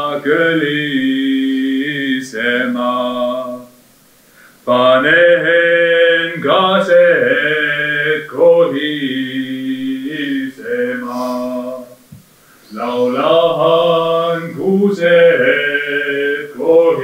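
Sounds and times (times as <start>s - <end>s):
person singing solo chant: 0.0s - 3.8s, 4.6s - 12.0s, 12.6s - 17.0s.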